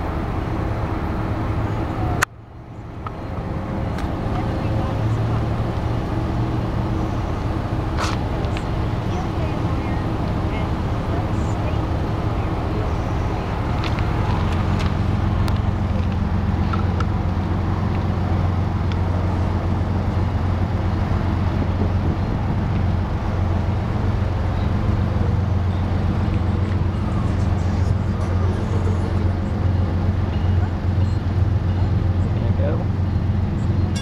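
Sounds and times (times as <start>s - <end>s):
diesel locomotive engines droning: 0.0s - 34.0s.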